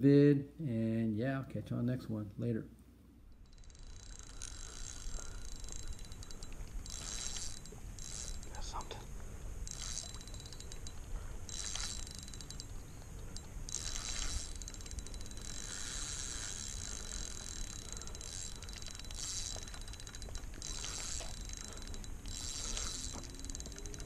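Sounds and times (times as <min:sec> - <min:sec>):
fishing reel ratcheting clicks: 0:03.3 - 0:24.0.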